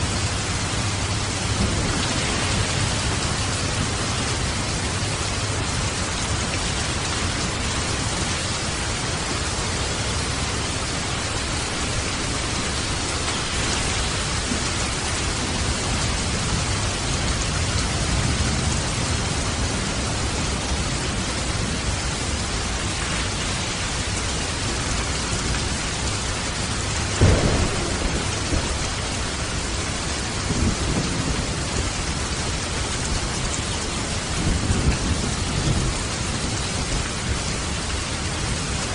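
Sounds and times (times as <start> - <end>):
light rain: 0.0 - 38.9.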